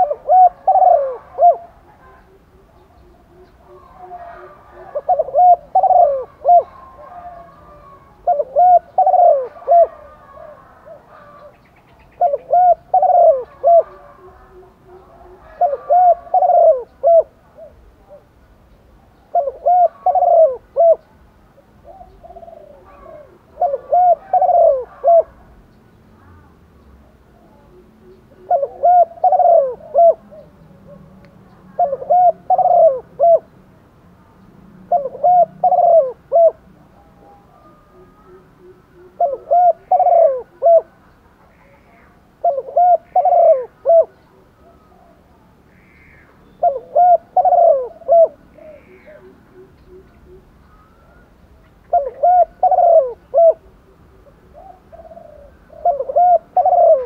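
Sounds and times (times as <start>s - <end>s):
dove cooing: 0.0s - 33.6s, 34.8s - 57.0s.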